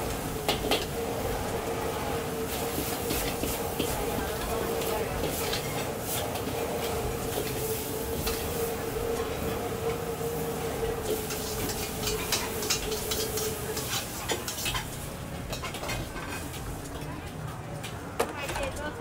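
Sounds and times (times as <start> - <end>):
metal utensils scraping woks: 0.0 - 17.3
frying sizzle: 0.0 - 17.4
steady hum: 0.0 - 19.0.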